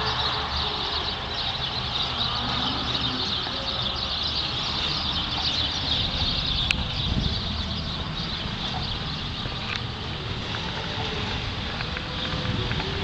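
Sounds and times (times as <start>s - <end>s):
birds chattering: 0.0s - 13.0s.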